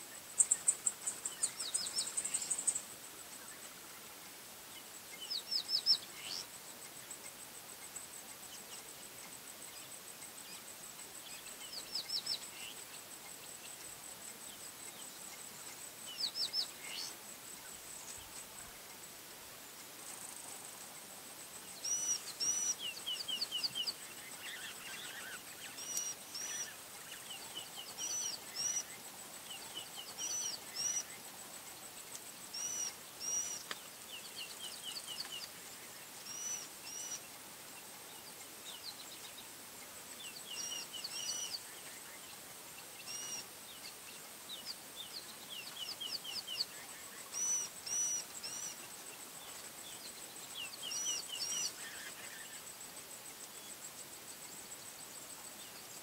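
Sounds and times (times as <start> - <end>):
high steady insect buzz: 0.0 - 56.0
birds with busier arching calls: 0.2 - 2.9, 4.8 - 10.7, 11.3 - 18.5, 20.8 - 52.7.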